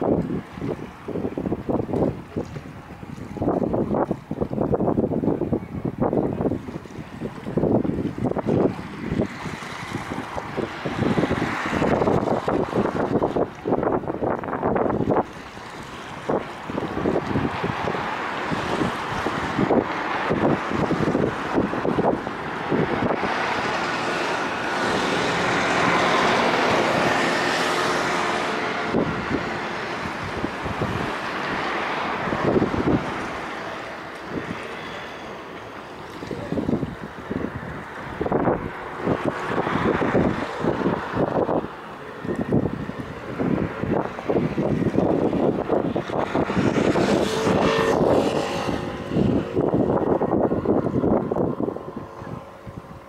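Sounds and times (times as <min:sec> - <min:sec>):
wind buffeting microphone: 0:00.0 - 0:53.0
vehicle passing by: 0:07.6 - 0:13.6, 0:14.2 - 0:52.8.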